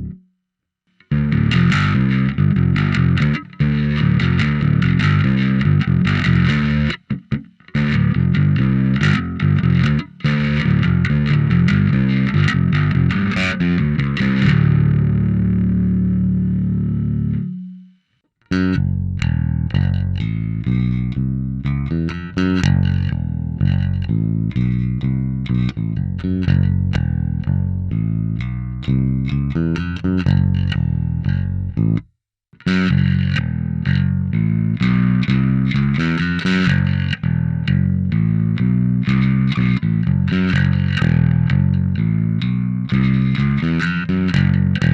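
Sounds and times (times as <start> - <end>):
distorted electric bass riff: 0.0 - 44.9.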